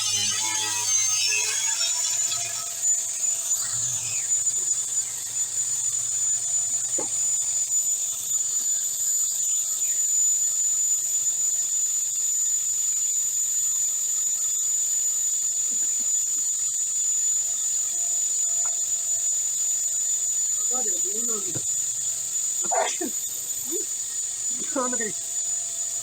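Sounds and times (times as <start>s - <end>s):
table saw motor whining: 0.0s - 10.2s, 15.3s - 26.0s.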